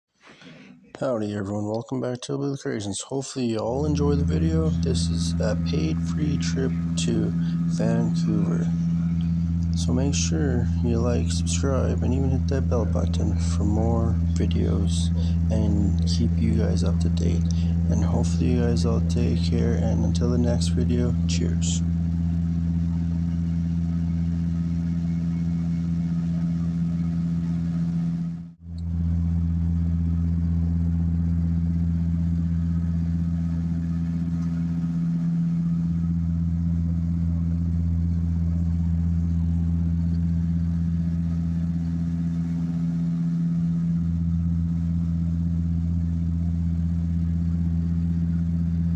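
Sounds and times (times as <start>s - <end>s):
aircraft cabin engine drone: 3.6s - 48.9s.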